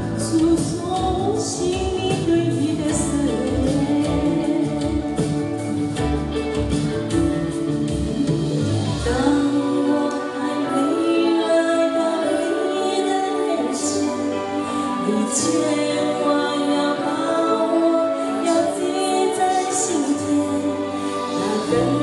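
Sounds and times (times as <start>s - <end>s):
musical accompaniment: 0.0s - 22.0s.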